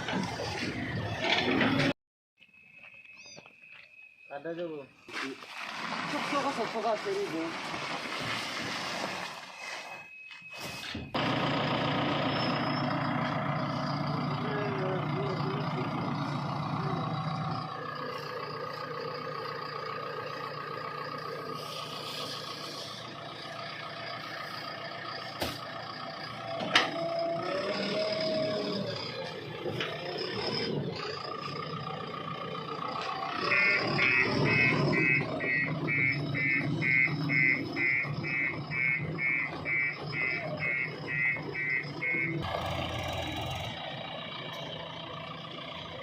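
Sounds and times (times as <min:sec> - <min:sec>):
diesel engines running: 0:00.0 - 0:02.0, 0:04.4 - 0:46.0.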